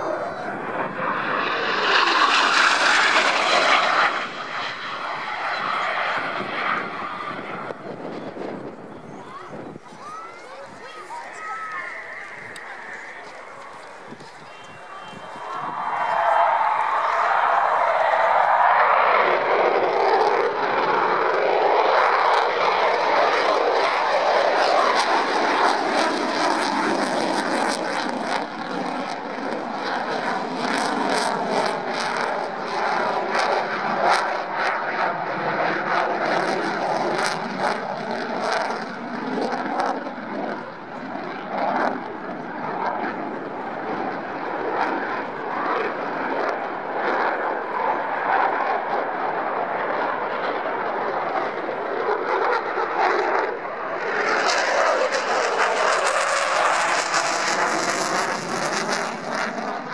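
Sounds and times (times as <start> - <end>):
jet engines roaring overhead: 0.0 - 59.9
jet noise crackling: 0.0 - 59.9.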